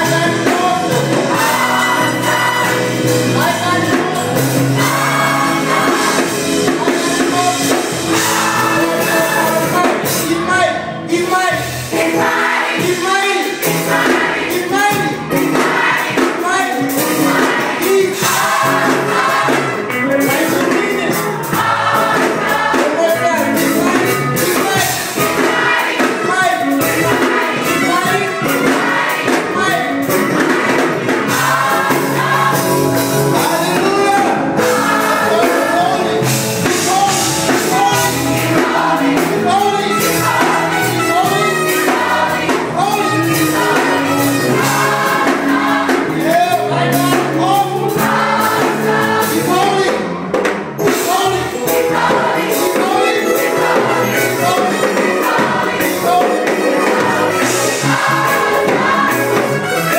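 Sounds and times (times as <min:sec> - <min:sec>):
gospel choir singing: 0:00.0 - 0:59.9.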